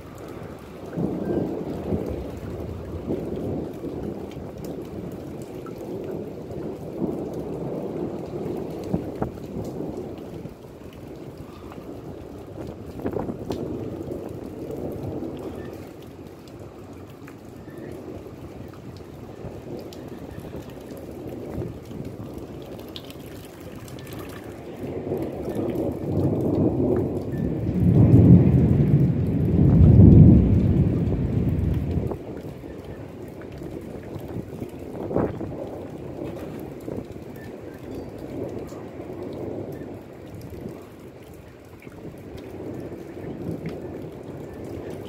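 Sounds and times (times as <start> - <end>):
steady rainfall: 0.0 - 45.0
thunder rumbling: 0.0 - 45.0.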